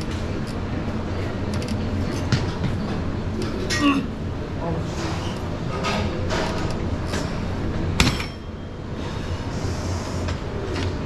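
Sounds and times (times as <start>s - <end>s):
rumbling gym ambience: 0.0s - 11.0s.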